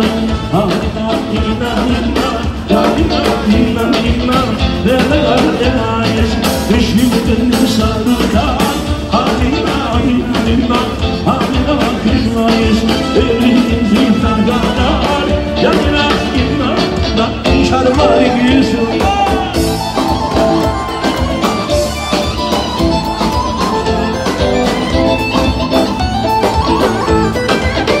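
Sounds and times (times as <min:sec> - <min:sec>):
person singing: 0:00.0 - 0:24.6
bass guitar: 0:00.0 - 0:28.0
drum beat: 0:00.0 - 0:28.0
live band playing: 0:00.0 - 0:28.0.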